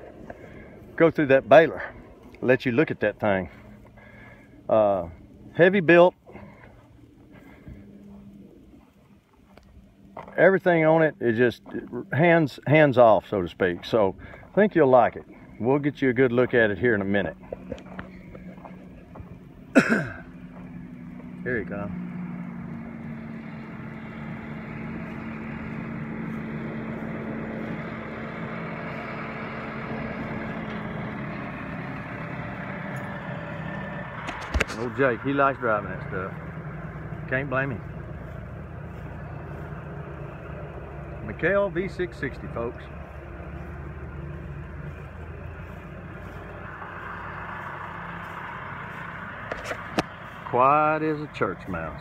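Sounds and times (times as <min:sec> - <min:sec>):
tractor engine humming: 0:00.0 - 0:52.0.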